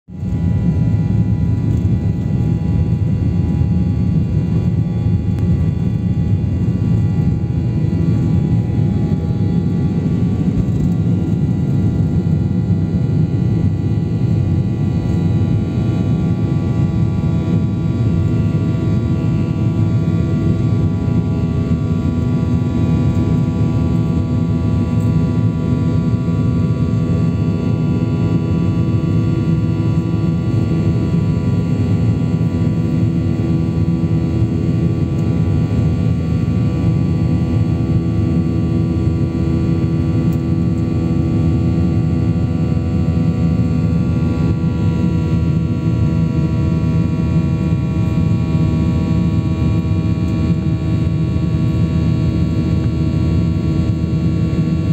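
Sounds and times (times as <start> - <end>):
airliner engines rumbling: 0.1 - 54.9.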